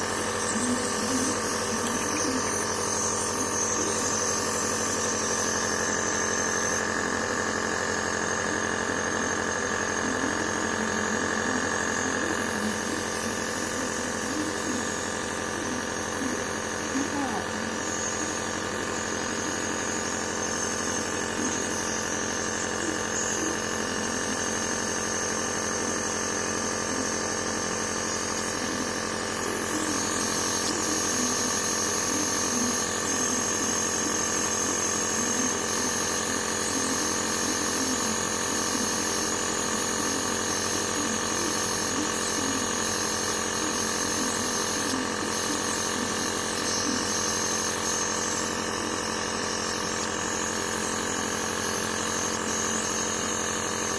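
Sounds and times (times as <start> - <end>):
nebulizer compressor humming: 0.0 - 53.9.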